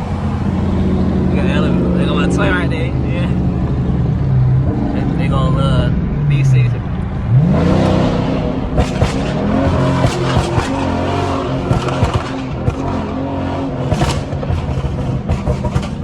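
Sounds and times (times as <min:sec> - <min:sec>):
car engines revving: 0:00.0 - 0:16.0
exhaust crackle: 0:00.0 - 0:16.0.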